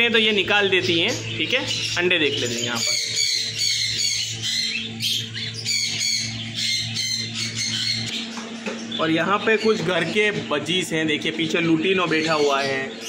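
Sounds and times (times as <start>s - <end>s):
budgerigars chattering and squawking: 0.0s - 13.0s
steady low hum: 0.0s - 13.0s.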